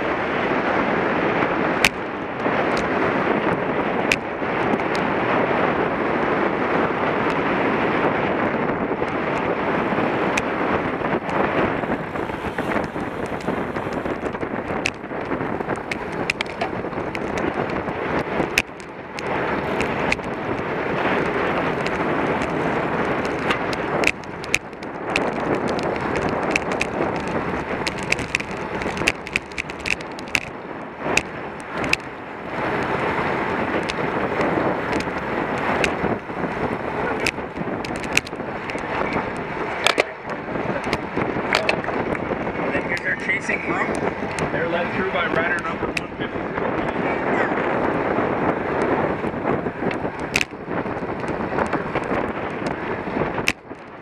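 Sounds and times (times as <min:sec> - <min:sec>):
tyre and road noise: 0:00.0 - 0:54.0
wind rushing over microphone: 0:00.0 - 0:54.0
bicycle clicks and rattles: 0:01.5 - 0:46.9, 0:47.6 - 0:54.0.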